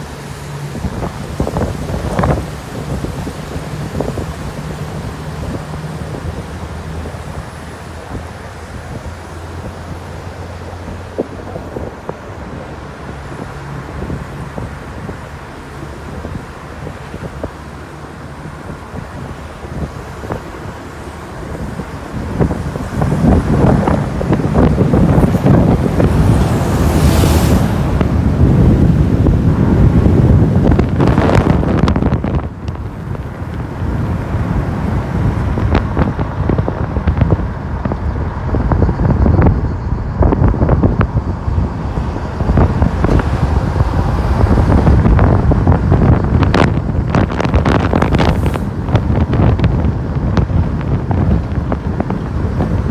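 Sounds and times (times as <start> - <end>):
car engine hum: 0.0 - 52.9
wind buffeting microphone: 0.0 - 52.9.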